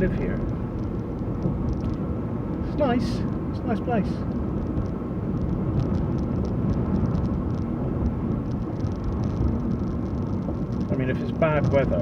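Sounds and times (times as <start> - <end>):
light rattles and ticks: 0.0 - 2.9, 4.2 - 12.0
car road and engine rumble: 0.0 - 12.0.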